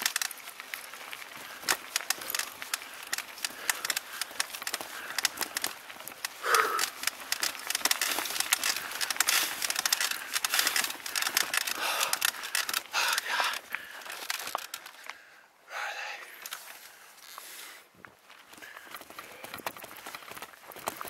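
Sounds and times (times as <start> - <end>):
bike rattling: 0.0 - 15.4, 16.3 - 21.0
tyres crackling over gravel: 0.0 - 21.0.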